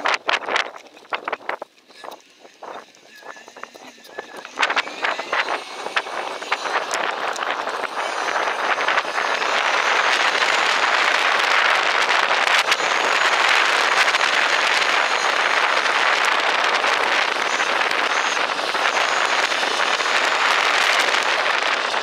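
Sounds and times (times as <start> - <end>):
bicycle tyres rolling on trail: 0.0 - 22.0
wind rushing over microphone: 0.0 - 22.0.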